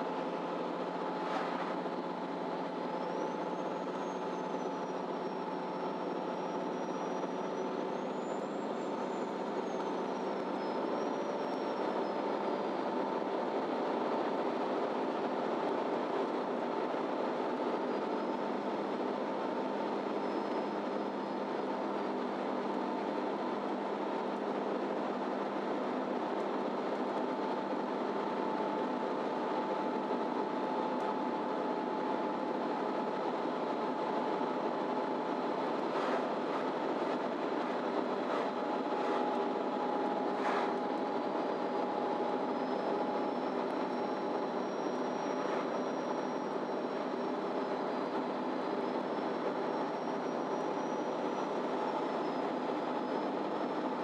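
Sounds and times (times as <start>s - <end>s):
bus engine and road drone: 0.0s - 54.0s
constant whine: 0.0s - 54.0s.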